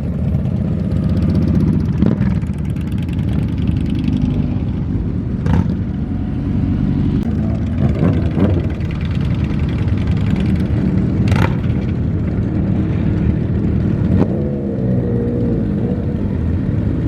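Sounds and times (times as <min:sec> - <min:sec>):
motorcycle engines running: 0:00.0 - 0:17.0.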